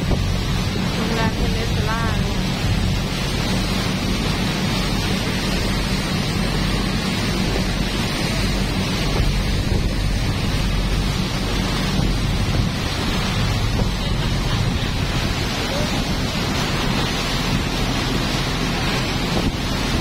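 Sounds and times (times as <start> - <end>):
boat engine drone: 0.0 - 20.0
water rushing along hull: 0.0 - 20.0
wind on microphone: 0.0 - 20.0.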